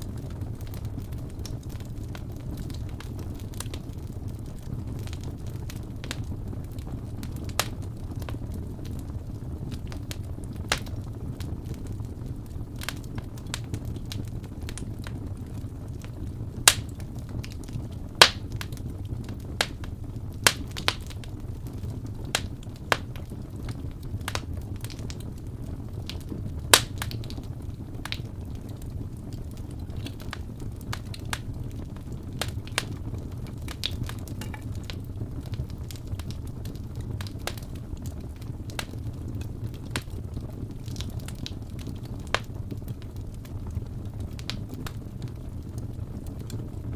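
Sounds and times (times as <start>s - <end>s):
fire pops and snaps: 0.0s - 46.9s
wood fire crackling: 0.0s - 46.9s.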